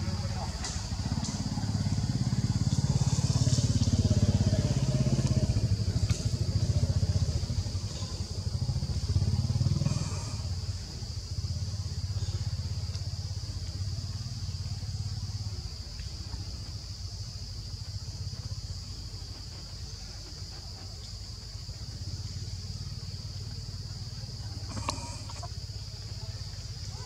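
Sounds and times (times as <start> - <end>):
high-pitched insect drone: 0.0 - 27.0
small engine rumbling: 0.0 - 27.0.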